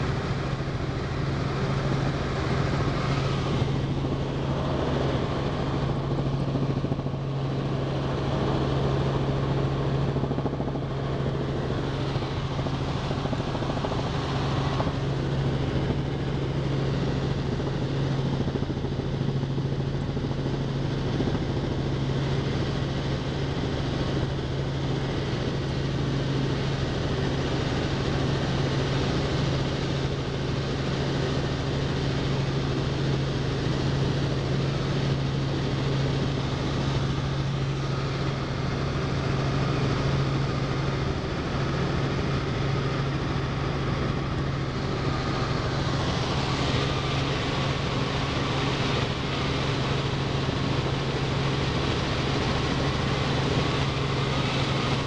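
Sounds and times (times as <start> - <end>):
helicopter engine and rotors drone: 0.0 - 55.0.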